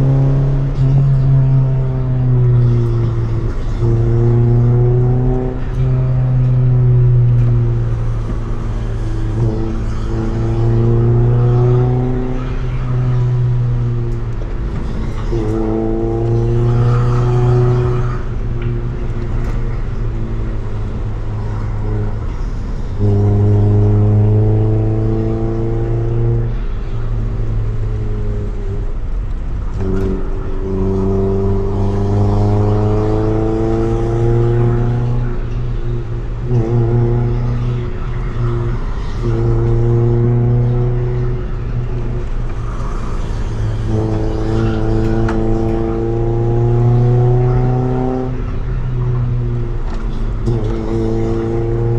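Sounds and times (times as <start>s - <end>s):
car engine pulling under throttle: 0.0s - 51.9s.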